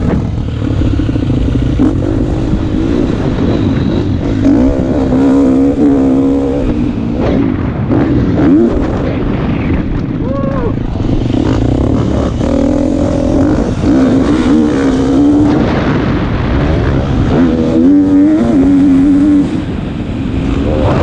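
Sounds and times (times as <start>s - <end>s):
motocross bike engine revving: 0.0s - 9.4s, 10.8s - 21.0s.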